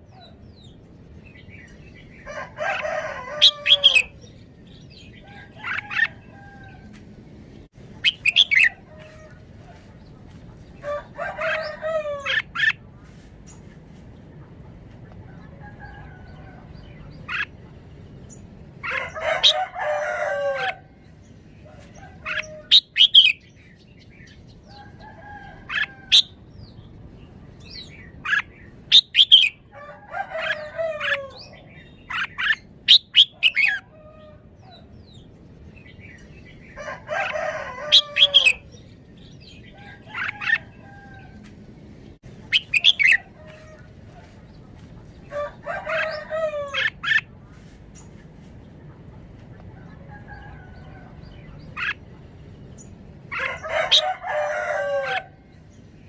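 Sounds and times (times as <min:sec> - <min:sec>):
harsh bird calls: 0:00.0 - 0:07.0, 0:07.9 - 0:09.9, 0:10.8 - 0:13.6, 0:15.6 - 0:26.8, 0:27.6 - 0:48.1, 0:49.8 - 0:56.0.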